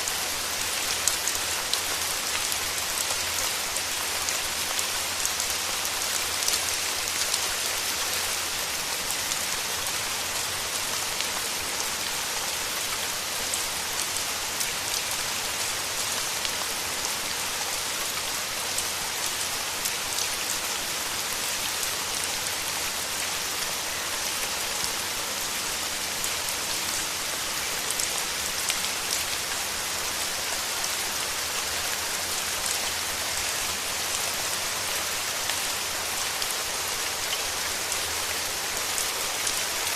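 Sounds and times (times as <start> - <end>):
rain hissing through forest: 0.0 - 39.9.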